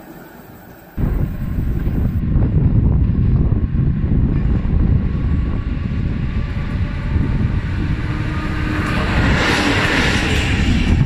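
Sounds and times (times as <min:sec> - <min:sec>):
train passing on rails: 0:00.0 - 0:11.0
wind rumbling on microphone: 0:01.0 - 0:11.0.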